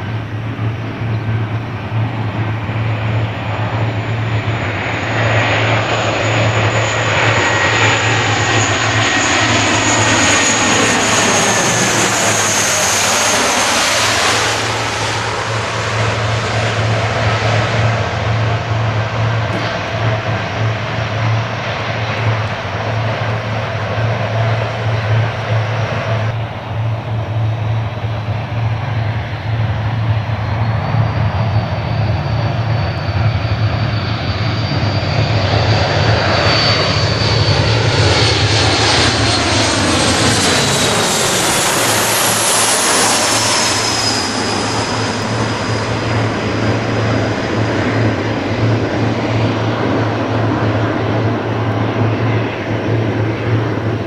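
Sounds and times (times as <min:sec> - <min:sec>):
jet aircraft passing: 0:00.0 - 0:54.0.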